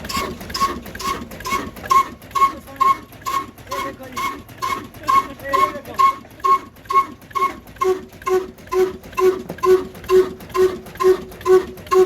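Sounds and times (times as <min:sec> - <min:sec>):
stationary engine running slowly: 0:00.0 - 0:12.0.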